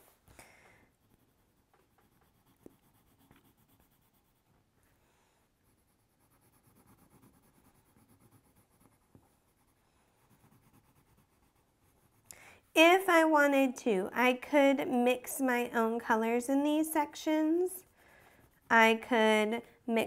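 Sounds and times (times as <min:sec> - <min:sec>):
coloring scratching on paper: 0:00.9 - 0:13.6, 0:14.5 - 0:20.0.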